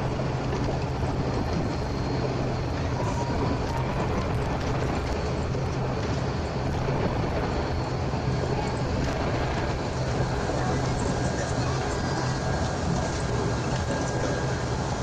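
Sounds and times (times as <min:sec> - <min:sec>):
turboprop engine drone: 0:00.0 - 0:15.0.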